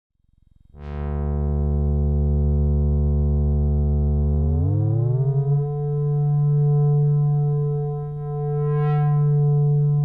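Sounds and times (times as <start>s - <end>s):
synthesizer bass note: 0.8s - 10.0s.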